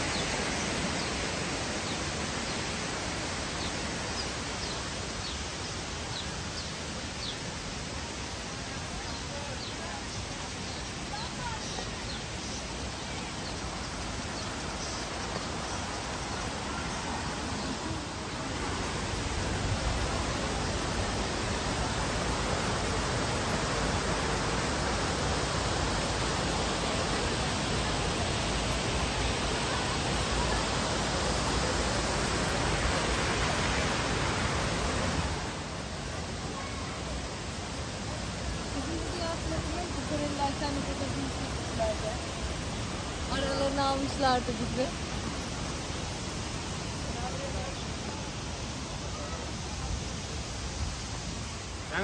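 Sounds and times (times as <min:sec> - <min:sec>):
waterfall and rapids rushing: 0:00.0 - 0:52.0.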